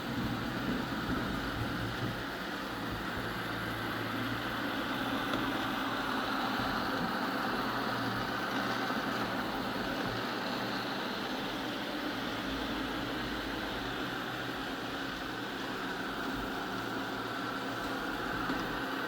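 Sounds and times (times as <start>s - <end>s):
robot vacuum motor whir: 0.0s - 19.0s.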